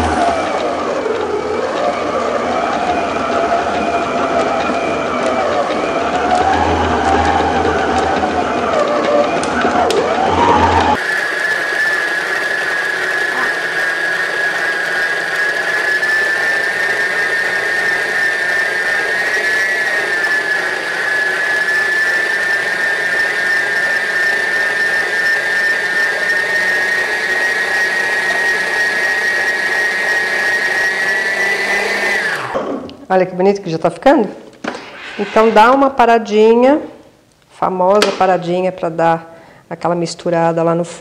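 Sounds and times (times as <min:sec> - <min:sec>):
stand mixer motor whine: 0:00.0 - 0:33.0.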